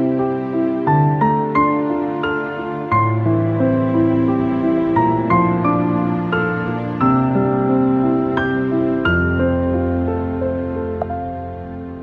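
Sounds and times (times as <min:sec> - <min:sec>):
gentle slow melody: 0:00.0 - 0:12.0.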